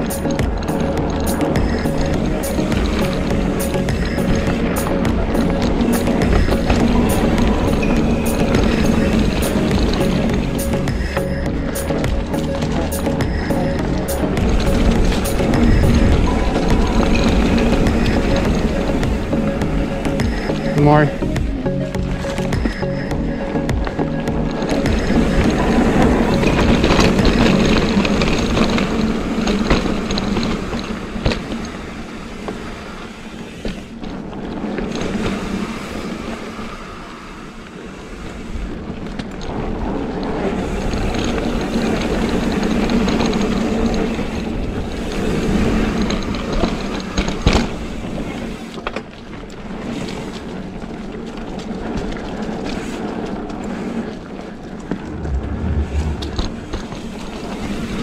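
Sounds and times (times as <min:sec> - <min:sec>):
bike clicking and rattling: 0:00.0 - 0:58.0
bike tyres rumbling on dirt: 0:00.0 - 0:58.0.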